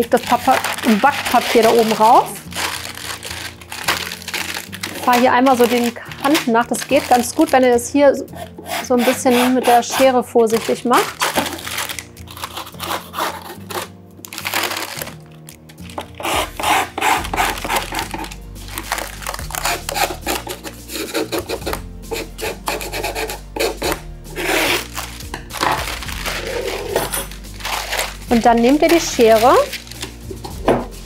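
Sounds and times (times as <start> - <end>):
baking paper rustling and scraping: 0.0 - 7.8, 8.4 - 31.0
background music with bass: 0.0 - 31.0.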